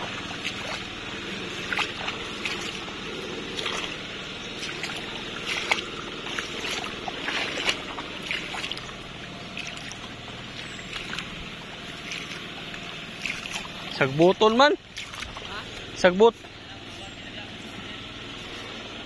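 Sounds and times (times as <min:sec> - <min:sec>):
short water splashes: 0:00.0 - 0:17.0
shallow water sloshing: 0:00.0 - 0:19.0.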